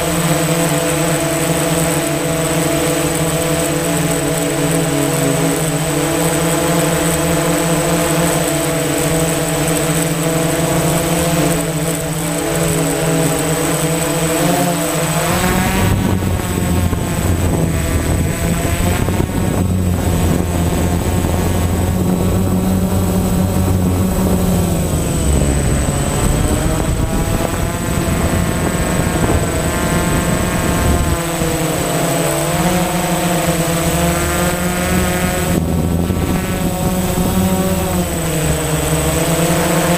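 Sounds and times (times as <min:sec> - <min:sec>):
drone propellers whirring: 0:00.0 - 0:39.9
thin high whine: 0:05.2 - 0:39.9.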